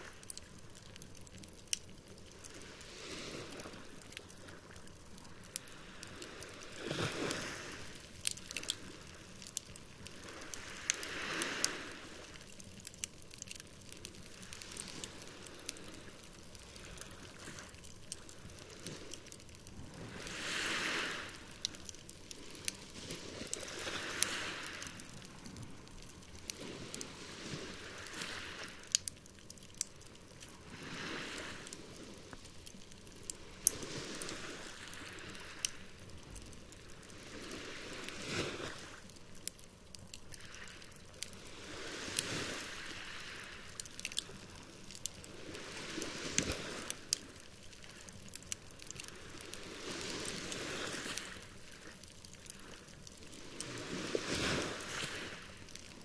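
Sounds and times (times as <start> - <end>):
campfire crackling and popping: 0.0 - 56.0
waves washing ashore: 2.2 - 39.6, 40.3 - 56.0.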